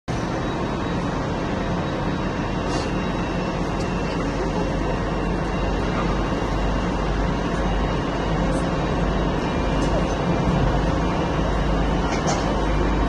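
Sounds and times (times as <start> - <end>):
low rumble of traffic: 0.1 - 13.0.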